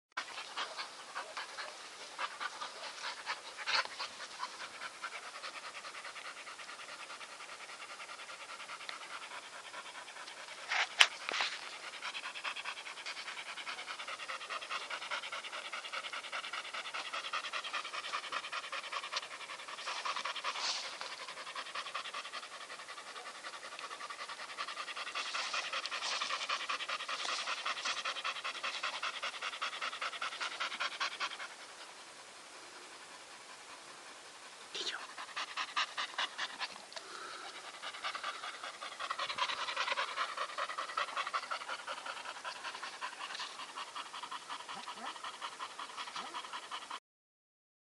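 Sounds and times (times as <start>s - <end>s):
dog panting rapidly: 0.2s - 32.1s, 32.8s - 47.0s.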